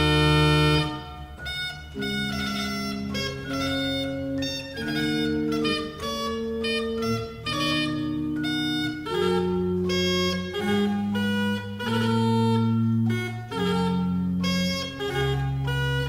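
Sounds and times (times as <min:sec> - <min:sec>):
organ playing: 0:00.0 - 0:16.0.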